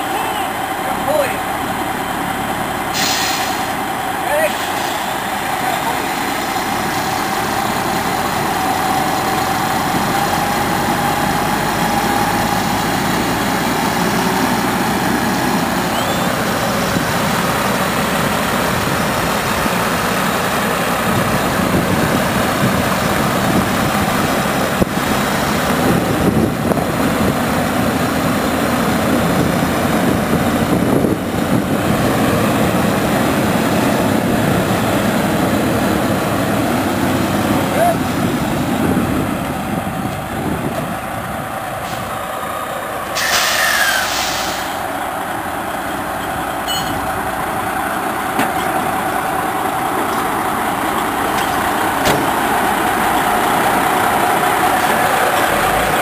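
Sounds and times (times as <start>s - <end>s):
heavy diesel truck engines: 0.0s - 56.0s.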